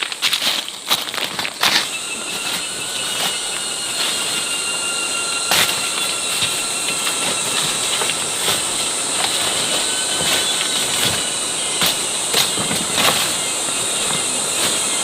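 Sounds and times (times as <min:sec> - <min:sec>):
insect chorus shrilling: 0:00.0 - 0:15.0.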